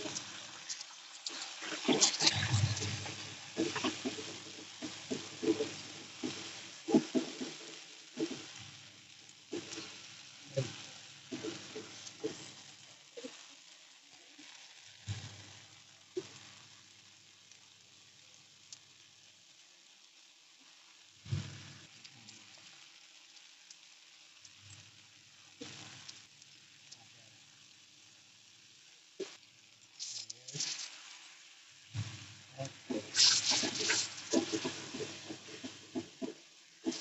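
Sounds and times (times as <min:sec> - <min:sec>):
chicken sizzling in a wok: 0:00.0 - 0:37.0.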